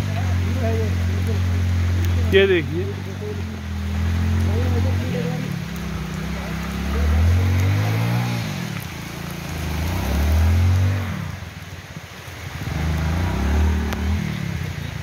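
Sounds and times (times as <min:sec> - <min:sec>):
motorcycle engine revving: 0:00.0 - 0:11.6, 0:12.4 - 0:15.0.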